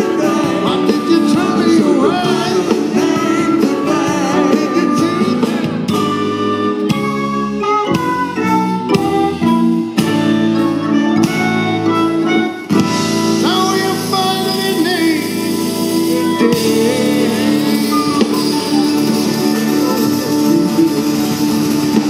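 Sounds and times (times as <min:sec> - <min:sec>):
harmonica melody: 0:00.0 - 0:22.0
live band playing: 0:00.0 - 0:22.0.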